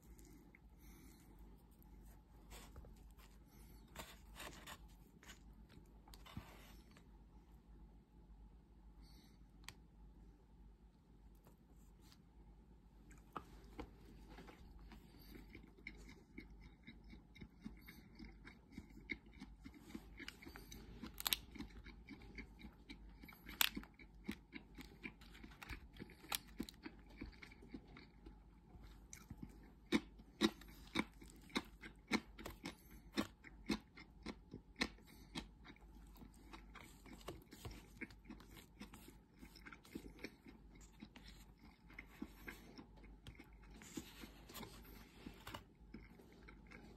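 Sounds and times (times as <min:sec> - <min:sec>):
quiet chewing: 0:00.0 - 0:07.1, 0:13.0 - 0:46.9.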